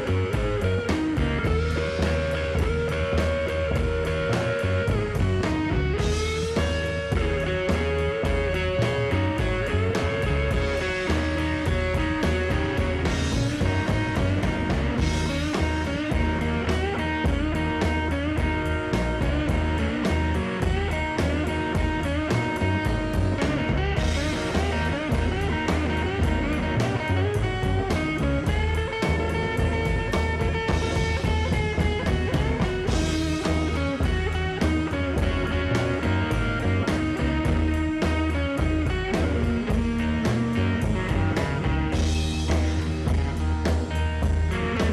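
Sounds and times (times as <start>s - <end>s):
rock band playing: 0.0s - 44.9s.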